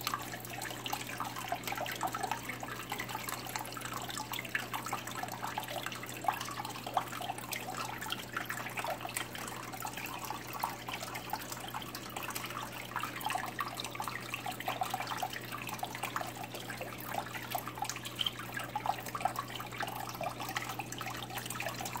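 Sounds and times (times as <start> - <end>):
water trickling and dripping: 0.0 - 22.0.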